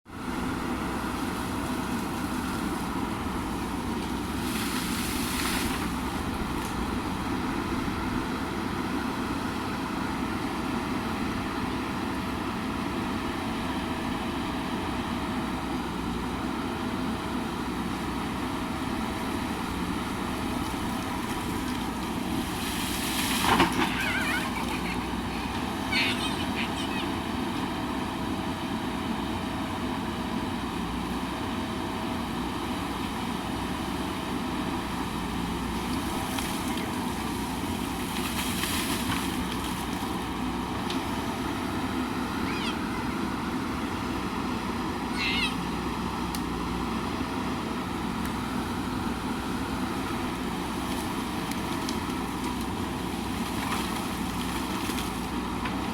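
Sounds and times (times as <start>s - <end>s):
diesel engine running: 0.1s - 55.9s.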